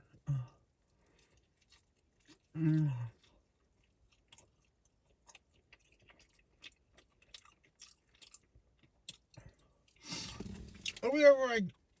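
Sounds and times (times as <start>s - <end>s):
close-up chewing: 0.0s - 11.1s.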